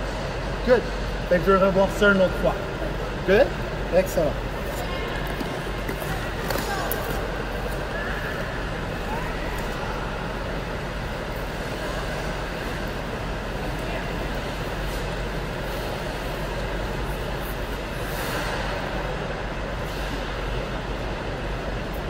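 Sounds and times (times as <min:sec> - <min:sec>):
machinery hum and hiss: 0:00.0 - 0:22.0.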